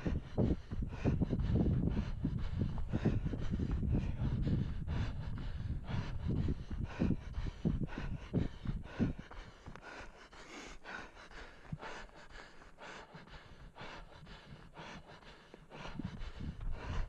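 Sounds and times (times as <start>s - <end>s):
heavy rhythmic breathing: 0.0s - 17.0s.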